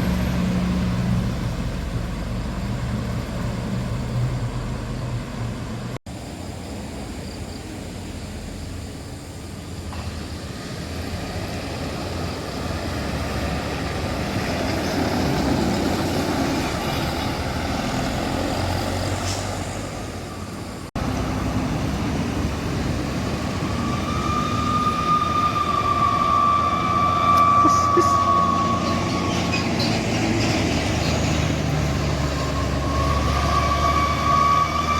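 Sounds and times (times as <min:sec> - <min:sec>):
large vehicle passing by: 0:00.0 - 0:08.8, 0:09.7 - 0:34.9
vehicle approaching: 0:00.0 - 0:34.9.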